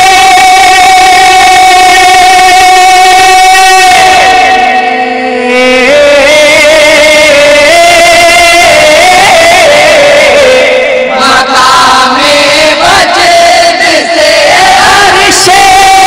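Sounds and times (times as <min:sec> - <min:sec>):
men singing devotional song: 0:00.0 - 0:16.0.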